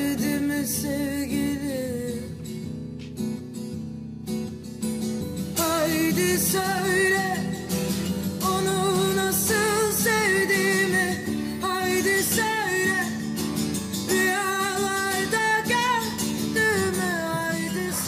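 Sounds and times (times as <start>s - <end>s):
plucked guitar: 0.0s - 18.0s.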